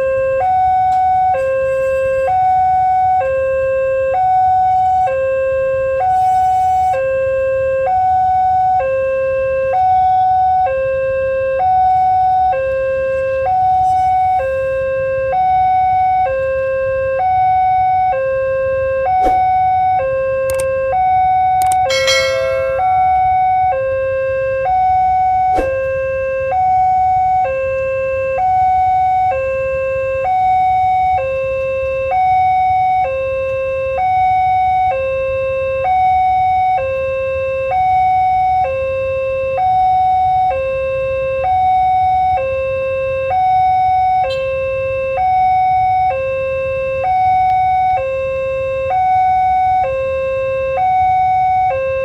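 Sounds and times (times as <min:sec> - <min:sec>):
level crossing two-tone alarm: 0:00.0 - 0:52.0.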